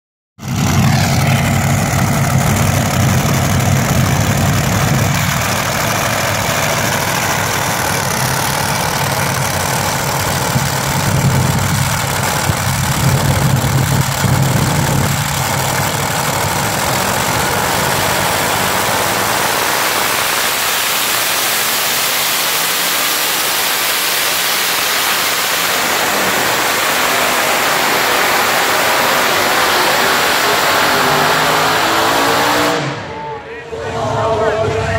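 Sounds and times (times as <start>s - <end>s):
deep truck engine rumbling: 0.4s - 34.9s.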